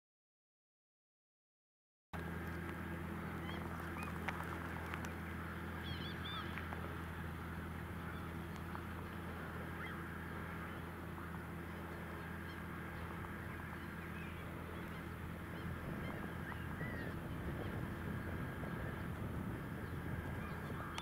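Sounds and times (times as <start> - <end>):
gulls calling: 2.2 - 21.0
tractor diesel engine running: 2.2 - 21.0.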